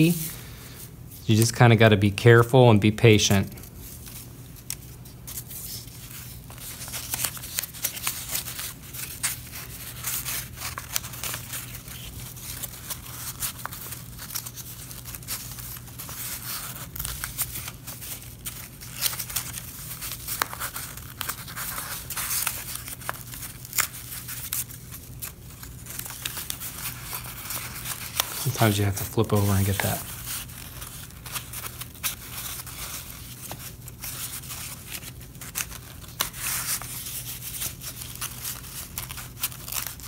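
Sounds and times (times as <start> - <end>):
paper rustling and crinkling: 3.0 - 40.0.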